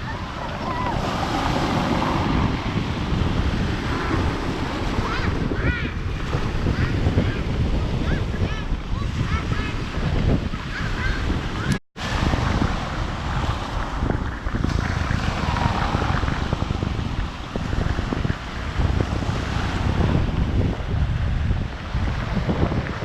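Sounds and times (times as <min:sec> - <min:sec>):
sea surf: 0:00.0 - 0:23.0
wind buffeting microphone: 0:00.0 - 0:23.0.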